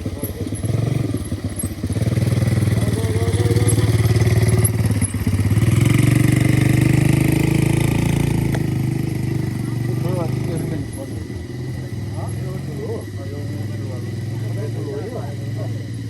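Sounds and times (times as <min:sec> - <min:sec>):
go-kart engine revving: 0:00.0 - 0:16.0.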